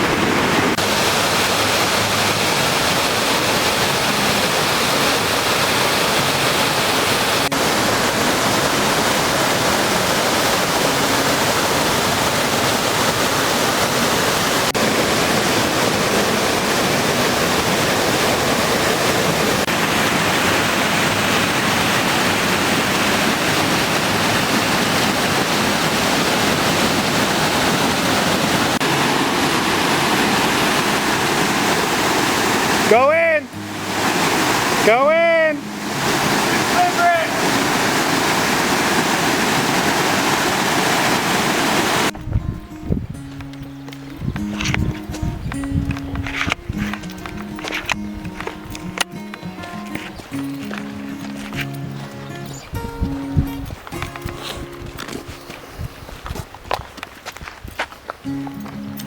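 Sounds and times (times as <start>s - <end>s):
rushing whitewater: 0.0s - 42.2s, 45.6s - 55.9s.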